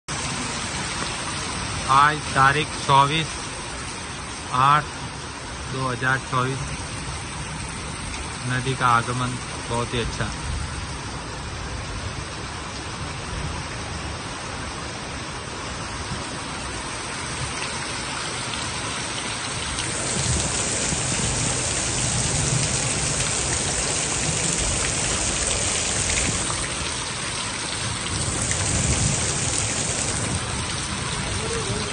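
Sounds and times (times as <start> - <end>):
heavy rain hissing: 0.1 - 31.9
river rushing: 0.1 - 31.9.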